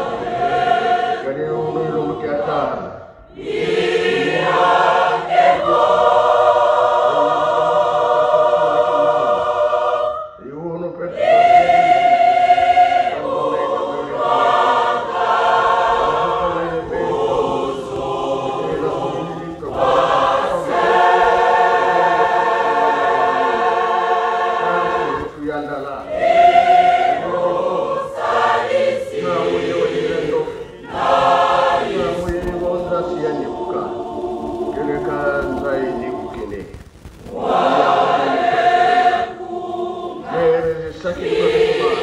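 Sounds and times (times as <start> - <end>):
choir singing a hymn: 0.0 - 36.7, 37.3 - 42.0.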